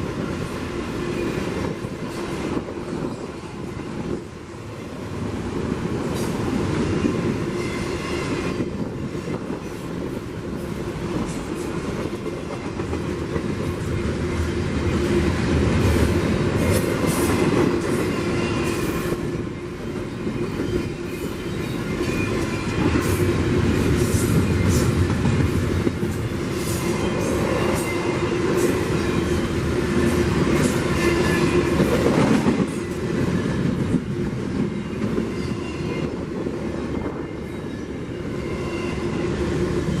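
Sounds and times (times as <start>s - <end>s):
railcars rumbling past: 0.0s - 40.0s.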